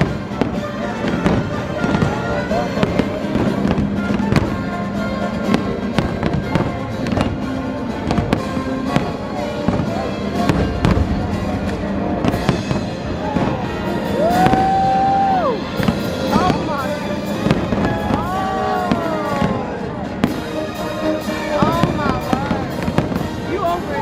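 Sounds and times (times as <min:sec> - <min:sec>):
music playing: 0:00.0 - 0:24.0.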